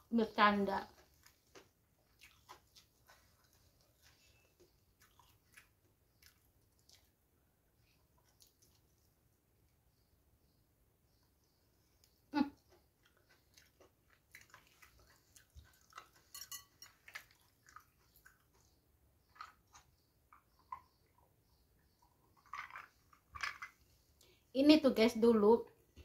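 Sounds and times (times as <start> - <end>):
person chewing food: 1.0 - 9.3, 11.5 - 24.3.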